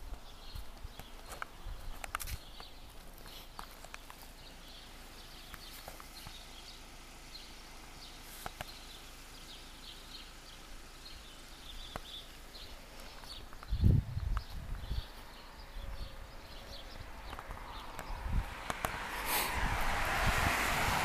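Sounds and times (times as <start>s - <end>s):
small birds chirping: 0.0s - 19.6s.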